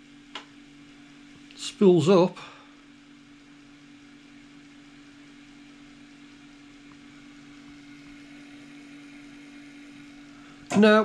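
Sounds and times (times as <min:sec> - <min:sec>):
floppy disk drive motor hum: 0:00.0 - 0:11.0.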